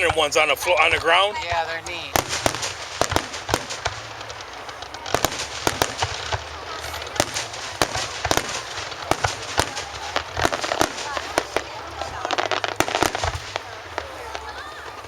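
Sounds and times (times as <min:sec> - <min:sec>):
fireworks bangs and pops: 0:00.0 - 0:15.0
fireworks crackling hiss: 0:00.0 - 0:15.0.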